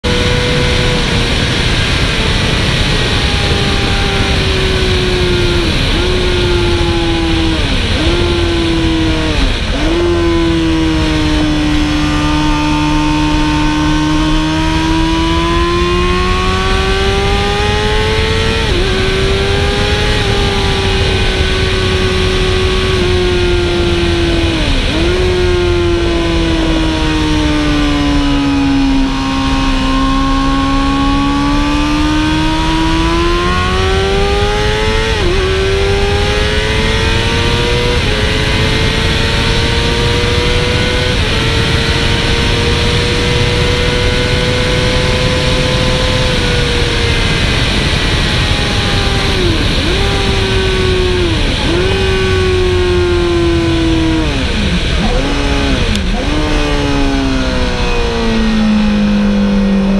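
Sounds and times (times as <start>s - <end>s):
motorcycle engine racing: 0.0s - 59.9s
wind rush: 0.0s - 59.9s.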